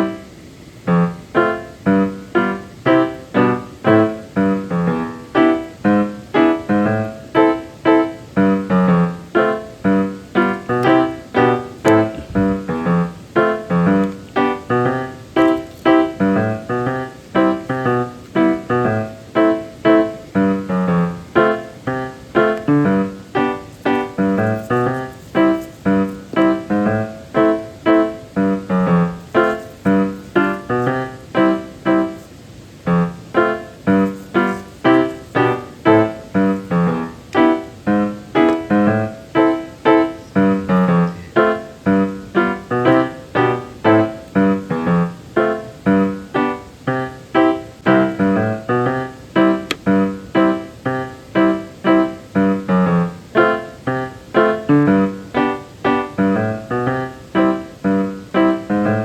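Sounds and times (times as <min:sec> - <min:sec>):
piano piece: 0:00.0 - 0:59.0.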